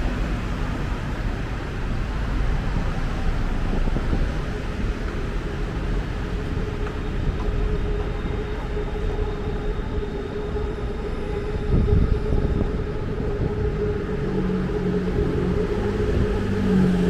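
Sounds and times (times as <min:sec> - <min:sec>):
elevated train passing: 0:00.0 - 0:17.0.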